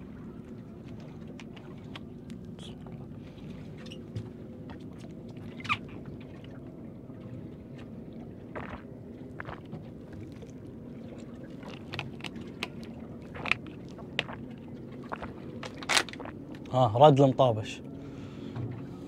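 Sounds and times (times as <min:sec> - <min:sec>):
water splashes: 0:00.0 - 0:17.4
boat engine running: 0:00.0 - 0:19.0.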